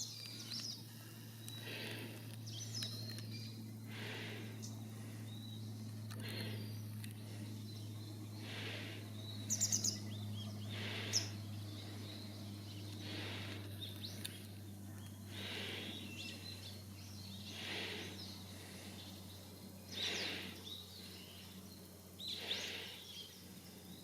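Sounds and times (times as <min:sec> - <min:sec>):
low hum: 0:00.0 - 0:24.0
small birds chirping: 0:00.0 - 0:24.0.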